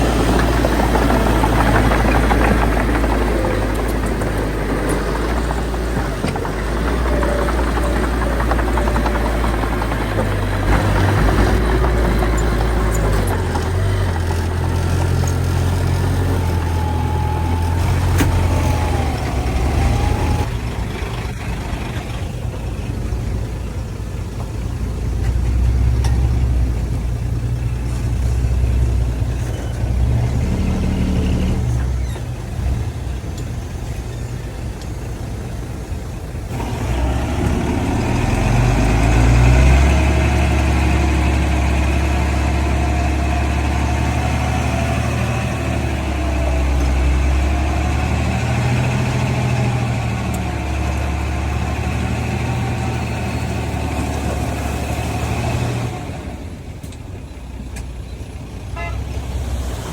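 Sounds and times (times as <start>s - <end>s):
heavy diesel engines working: 0.0s - 59.9s.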